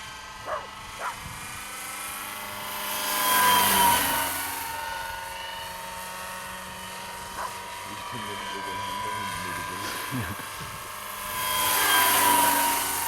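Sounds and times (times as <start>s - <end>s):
model helicopter flying: 0.0s - 13.0s.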